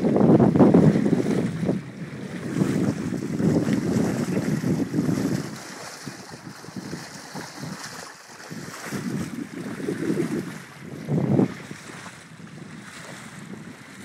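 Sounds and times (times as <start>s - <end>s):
water washing along a hull: 0.0s - 14.0s
wind buffeting the microphone: 0.0s - 14.0s.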